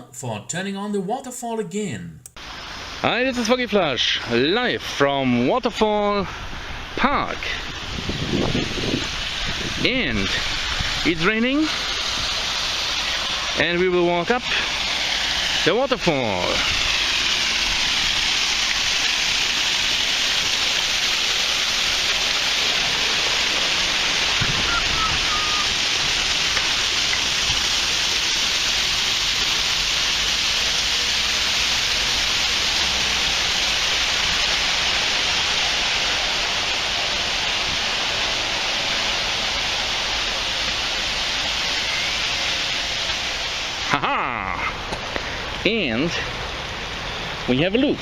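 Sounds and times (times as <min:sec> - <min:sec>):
waterfall rushing: 0:02.4 - 0:48.0.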